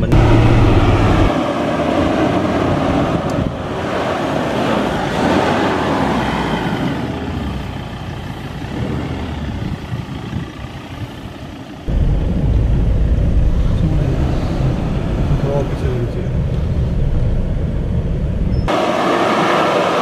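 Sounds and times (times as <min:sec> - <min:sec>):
diesel engine driving: 0:00.0 - 0:20.0.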